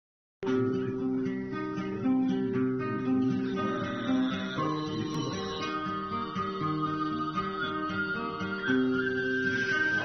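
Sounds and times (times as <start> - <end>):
acoustic guitar playing: 0.4 - 10.0.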